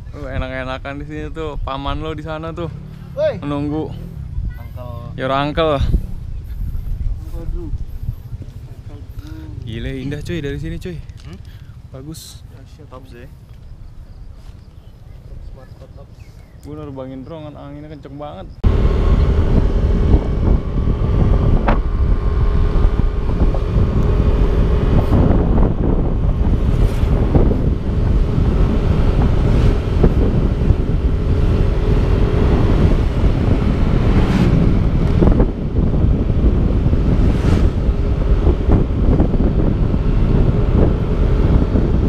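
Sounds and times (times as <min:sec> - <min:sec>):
wind buffeting microphone: 0:00.0 - 0:17.4, 0:18.4 - 0:42.0
motorcycle engine humming: 0:00.0 - 0:42.0.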